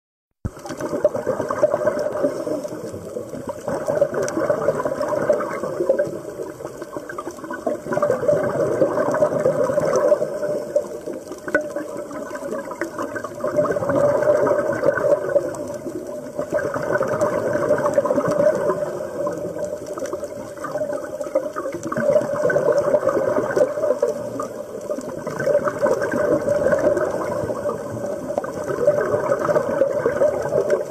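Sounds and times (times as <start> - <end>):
underwater bubbling and rushing: 0.4 - 30.9.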